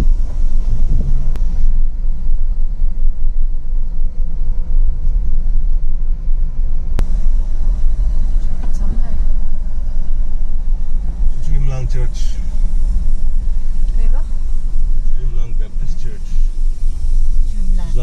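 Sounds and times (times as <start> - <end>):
vehicle road and engine rumble: 0.0 - 18.0.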